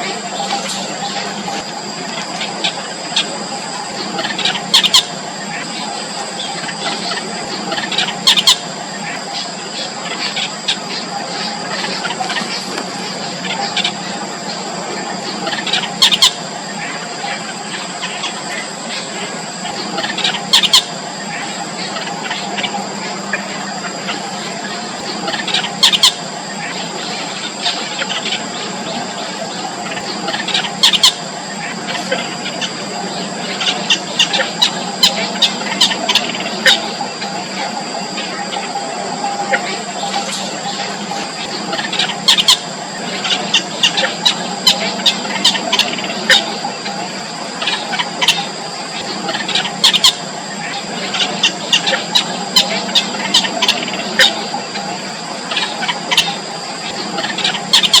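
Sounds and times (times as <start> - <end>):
bird chicks squeaking: 0.0 - 58.0
steady high tone: 0.0 - 58.0.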